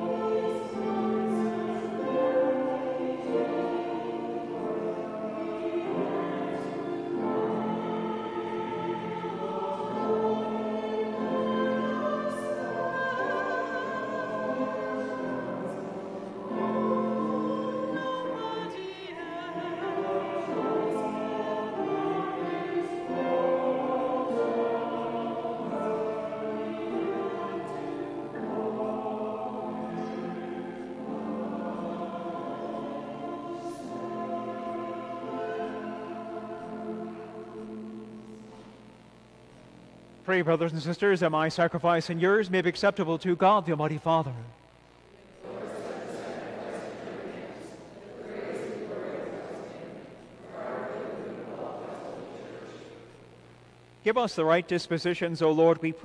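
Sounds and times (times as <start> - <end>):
church choir singing a hymn: 0.0 - 39.0, 40.3 - 44.4, 45.2 - 53.2.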